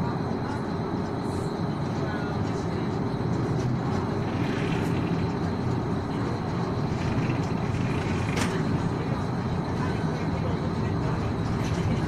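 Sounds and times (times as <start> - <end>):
ferry engines low rumble: 0.0 - 12.0.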